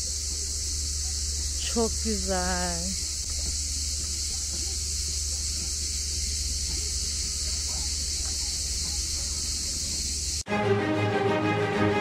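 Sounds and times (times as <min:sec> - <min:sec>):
cicadas singing: 0:00.0 - 0:10.4
low steady rumble: 0:00.0 - 0:10.4.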